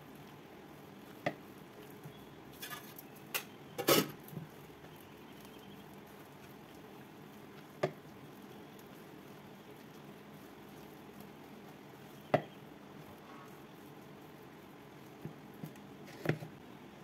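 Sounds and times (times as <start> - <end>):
wet batter squishing: 0.0 - 17.0.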